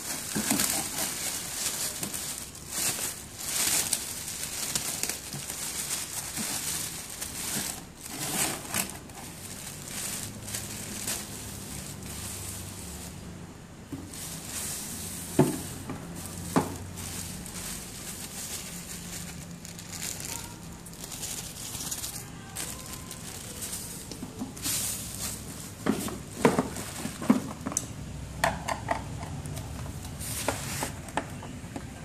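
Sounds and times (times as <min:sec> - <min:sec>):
plastic wrap crinkling: 0:00.0 - 0:27.9.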